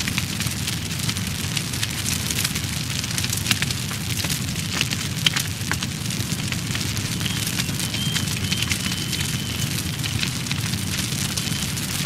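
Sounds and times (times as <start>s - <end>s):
fire crackling and popping: 0.0s - 12.0s
fire rumbling: 0.0s - 12.0s.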